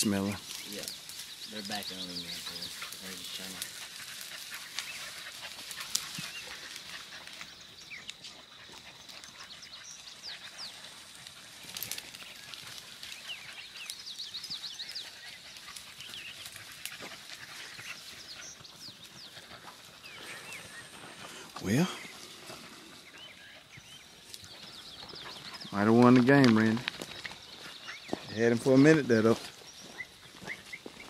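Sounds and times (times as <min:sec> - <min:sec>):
distant beagles baying: 0:00.0 - 0:31.0.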